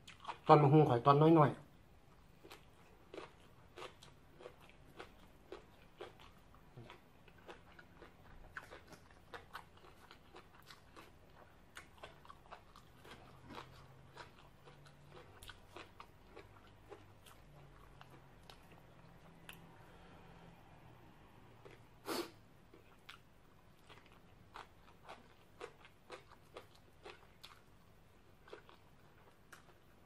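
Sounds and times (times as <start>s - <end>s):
person chewing and crunching food: 0.0s - 0.7s, 2.0s - 20.5s, 21.5s - 30.0s.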